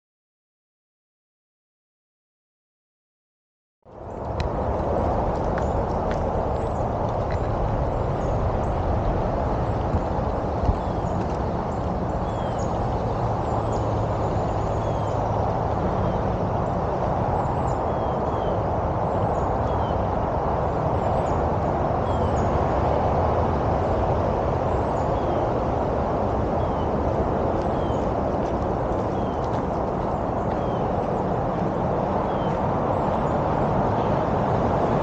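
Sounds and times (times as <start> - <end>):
continuous outdoor rumble: 3.8 - 35.0.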